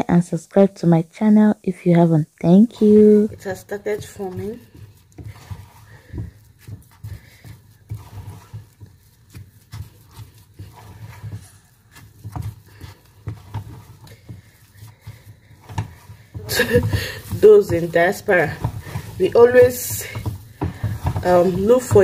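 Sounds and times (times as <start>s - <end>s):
wooden spoon thumping dough: 2.6s - 22.0s.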